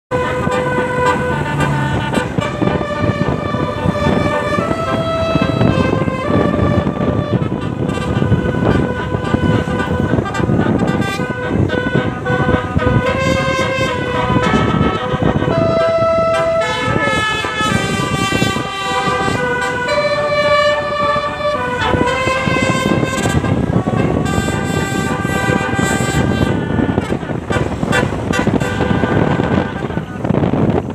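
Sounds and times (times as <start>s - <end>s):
multi-tone bus air horn melody: 0.1s - 30.9s
vehicle rumble: 0.1s - 30.9s.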